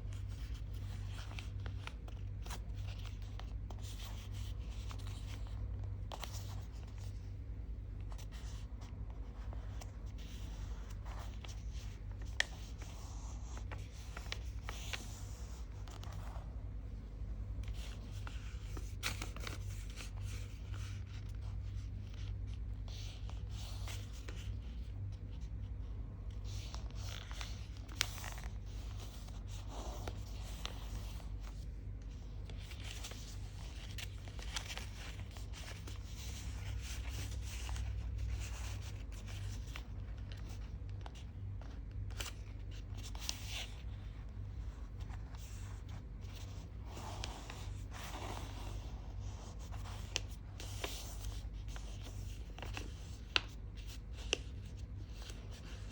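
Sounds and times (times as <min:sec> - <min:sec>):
paper being folded and creased: 0:00.0 - 0:07.3, 0:08.0 - 0:16.9, 0:17.5 - 0:25.6, 0:26.3 - 0:55.9
steady low hum: 0:00.0 - 0:55.9.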